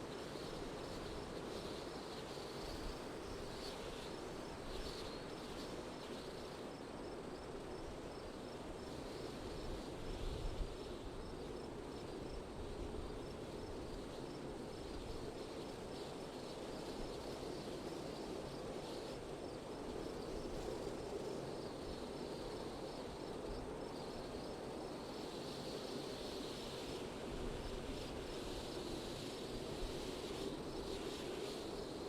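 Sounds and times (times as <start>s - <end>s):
steady wind: 0.0s - 32.0s.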